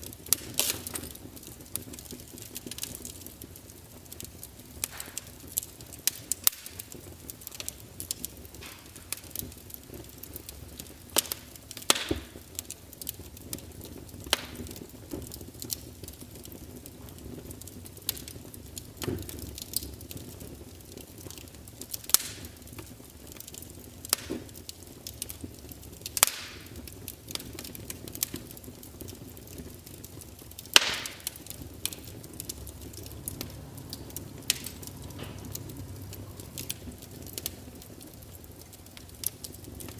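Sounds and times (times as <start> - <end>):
low steady hiss: 0.0 - 39.9
wood fire crackling and popping: 0.0 - 39.9.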